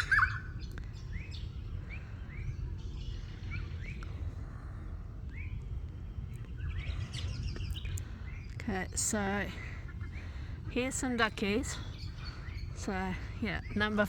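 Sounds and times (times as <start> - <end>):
bird rising chirps: 0.0 - 4.3, 5.2 - 10.6, 11.2 - 14.0
low outdoor rumble: 0.0 - 14.0.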